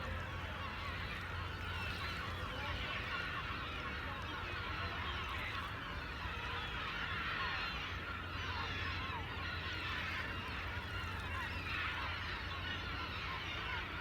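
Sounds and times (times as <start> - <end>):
seagulls calling: 0.0 - 14.0.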